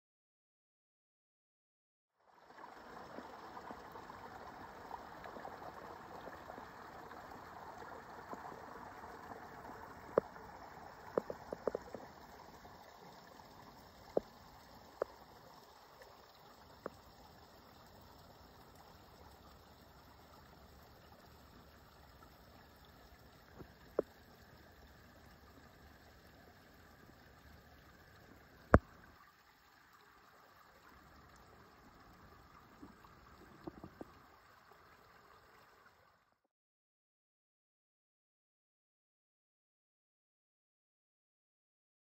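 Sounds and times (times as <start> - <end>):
stream trickling past a log: 2.2 - 36.4.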